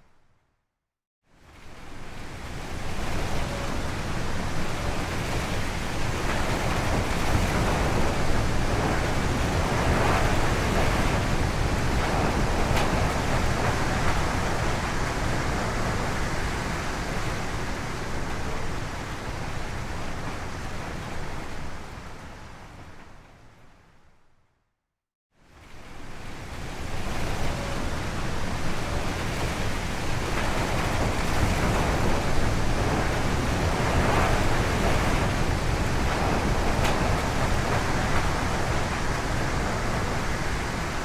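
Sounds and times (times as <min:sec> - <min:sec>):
gusting wind: 0:01.4 - 0:24.0, 0:25.5 - 0:41.0.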